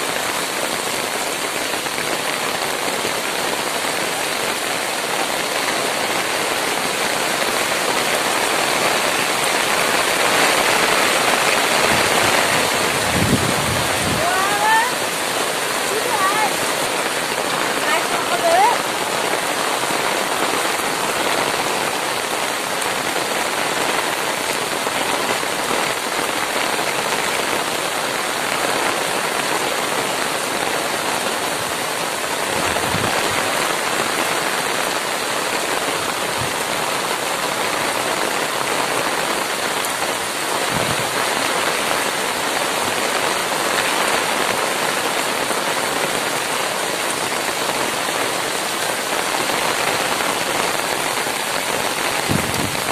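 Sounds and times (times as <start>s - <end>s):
heavy rain on water: 0.0s - 52.9s.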